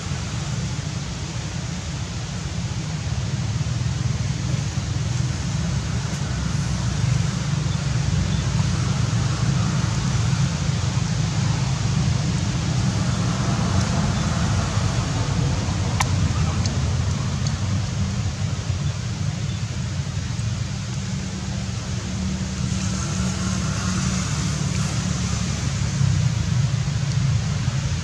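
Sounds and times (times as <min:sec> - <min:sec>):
heavy low rumble: 0:00.0 - 0:22.6.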